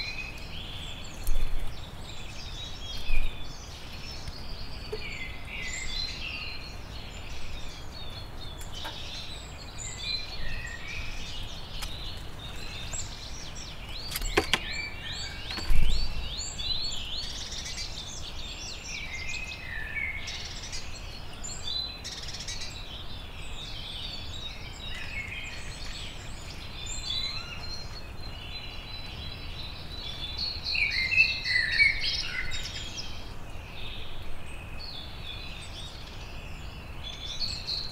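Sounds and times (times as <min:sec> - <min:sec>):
songbirds singing and chirping: 0:00.0 - 0:37.9.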